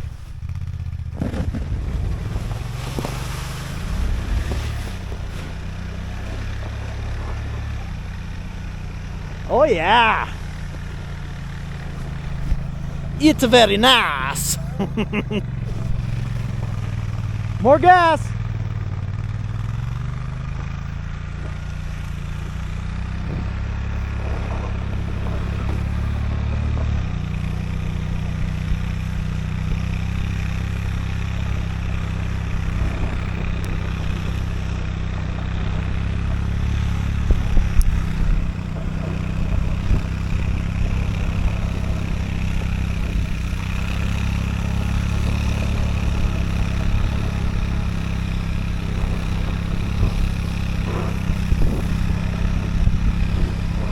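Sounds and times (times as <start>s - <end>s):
utility vehicle engine running: 0.0s - 53.9s.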